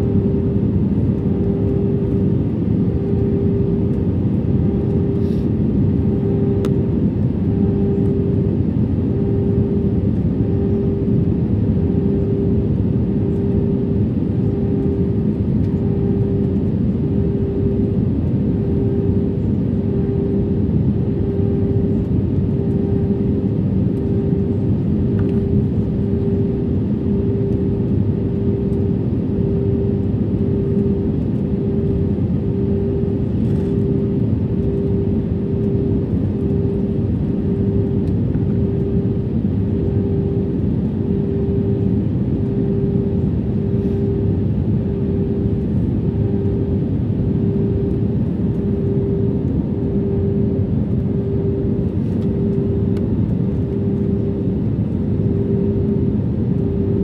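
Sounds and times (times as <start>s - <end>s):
airplane cabin engine rumble: 0.0s - 57.0s
pulsing hum: 0.0s - 57.0s.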